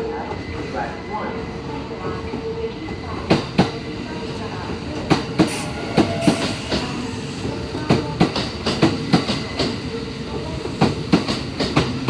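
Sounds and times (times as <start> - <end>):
train running noise: 0.1 - 12.0.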